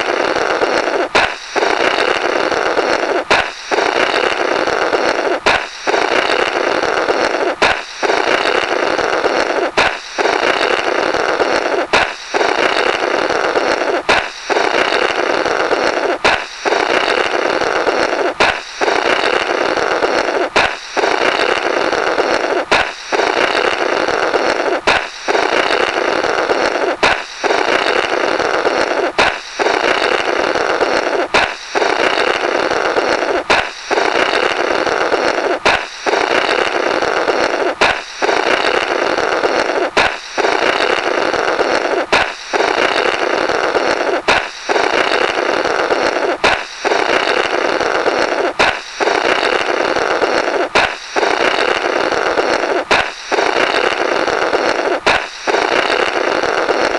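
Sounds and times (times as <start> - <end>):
balloon popping: 0.0 - 56.9
raspy blowing through rubber: 0.0 - 56.9.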